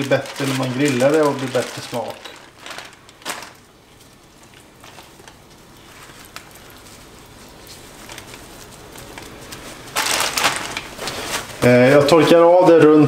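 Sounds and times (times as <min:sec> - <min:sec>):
soft handling of meat: 0:00.0 - 0:12.4.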